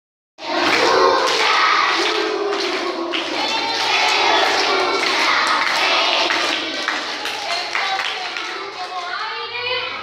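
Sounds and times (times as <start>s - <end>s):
children's voices overlapping: 0.8s - 10.0s.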